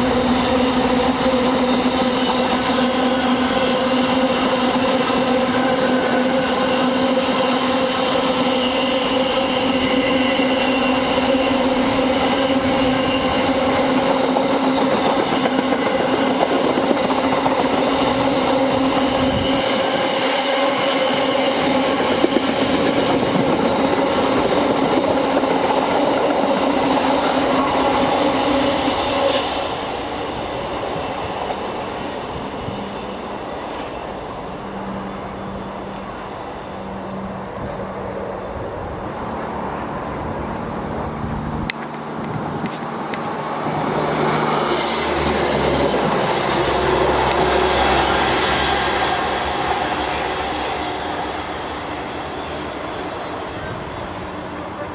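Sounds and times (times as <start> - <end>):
train passing on rails: 0.0 - 54.9.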